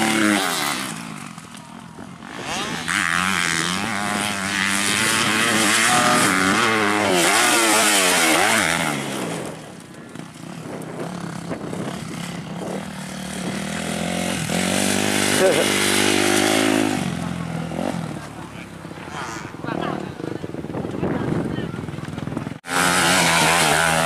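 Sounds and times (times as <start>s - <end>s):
motorbike engines revving: 0.0s - 24.0s.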